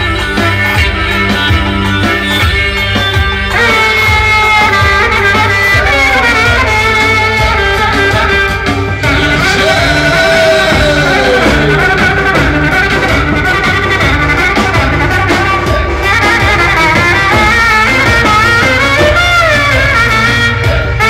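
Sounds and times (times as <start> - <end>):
steady drum beat: 0.0 - 21.0
trumpet melody: 0.0 - 21.0.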